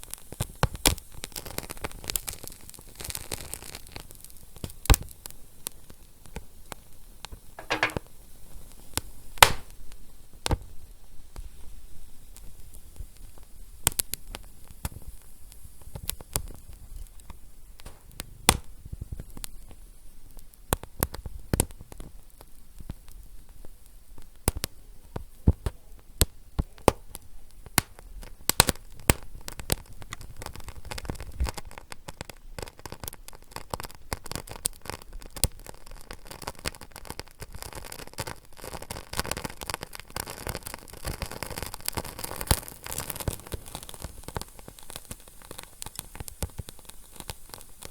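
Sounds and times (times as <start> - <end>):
wood fire crackling: 0.1 - 10.6, 11.4 - 47.9.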